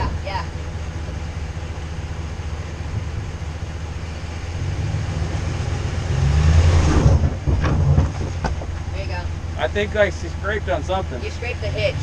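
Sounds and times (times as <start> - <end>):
pickup engine rumbling: 0.0 - 12.0.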